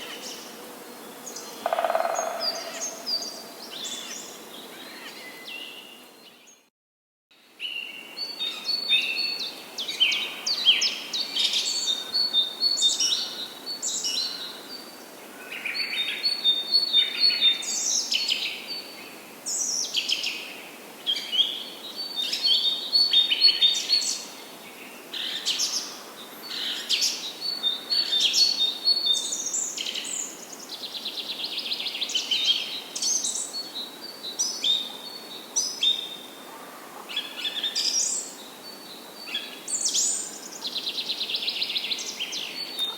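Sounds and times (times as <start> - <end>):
faint steady hiss: 7.4 - 42.9.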